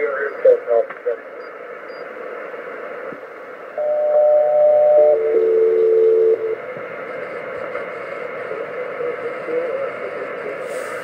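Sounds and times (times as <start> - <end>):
paired steady radio tones: 0.0 - 11.0
radio band noise hiss: 0.0 - 11.0.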